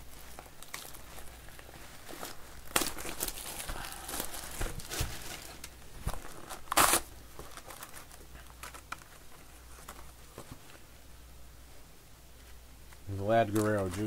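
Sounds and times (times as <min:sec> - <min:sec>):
plastic shrink-wrap crinkling: 0:00.0 - 0:10.7, 0:13.3 - 0:14.0.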